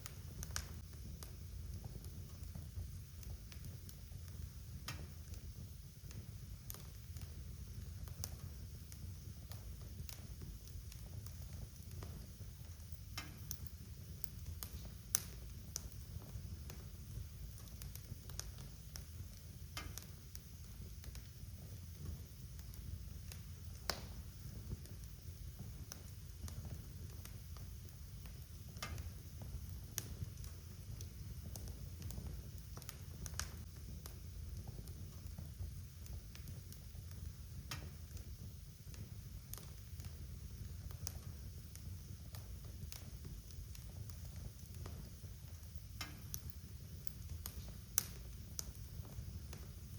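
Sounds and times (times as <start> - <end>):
low rumble of flames: 0.0 - 49.9
wood fire crackling: 0.0 - 49.9.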